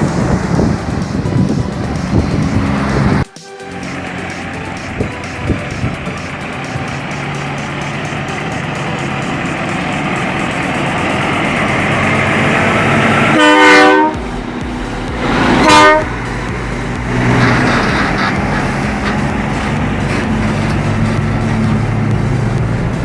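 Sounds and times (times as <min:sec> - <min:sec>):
diesel truck engine: 0:00.0 - 0:23.0
truck air horn blasts: 0:00.0 - 0:23.0.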